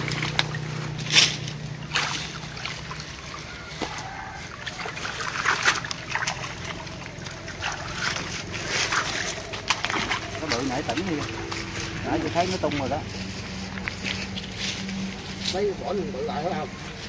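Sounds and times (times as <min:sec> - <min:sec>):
low engine hum: 0:00.0 - 0:17.0
water splashing and sloshing: 0:00.0 - 0:17.0.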